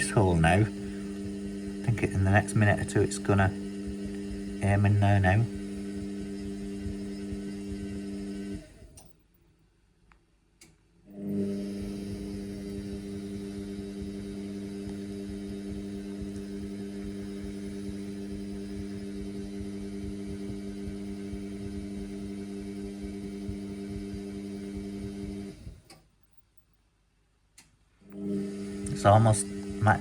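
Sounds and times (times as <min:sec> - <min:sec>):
washing machine humming and rumbling: 0:00.0 - 0:09.1, 0:11.1 - 0:25.9, 0:28.1 - 0:30.0.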